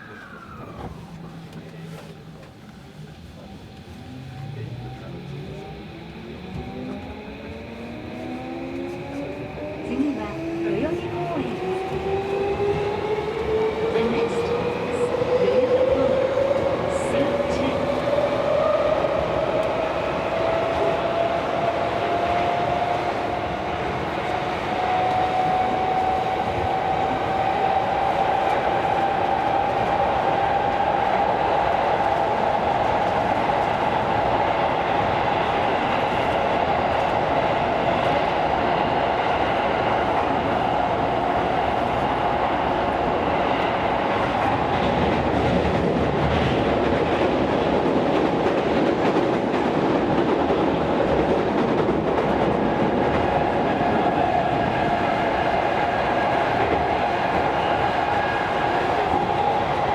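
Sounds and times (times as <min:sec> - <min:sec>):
subway train rolling noise: 0:00.0 - 0:59.9.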